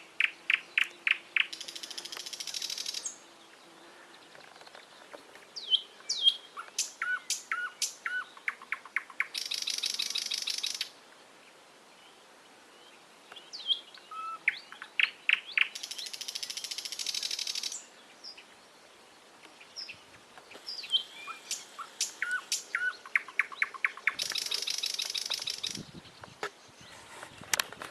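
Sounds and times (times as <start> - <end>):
songbird singing: 0.0 - 27.9.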